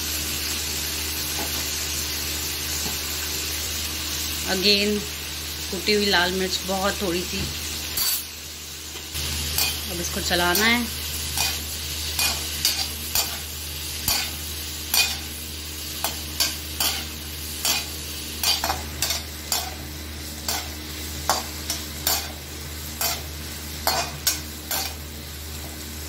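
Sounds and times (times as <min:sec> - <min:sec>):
frying sizzle: 0:00.0 - 0:26.0.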